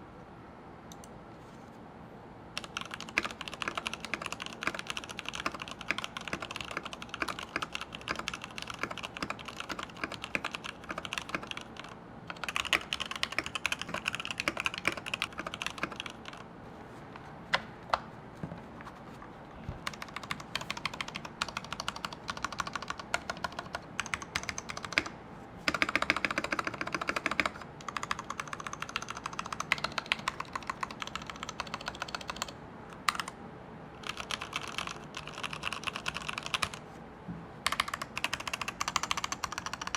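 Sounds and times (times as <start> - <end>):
mechanical keyboard typing: 2.6 - 16.5, 19.8 - 33.4, 34.0 - 36.8, 37.6 - 39.9.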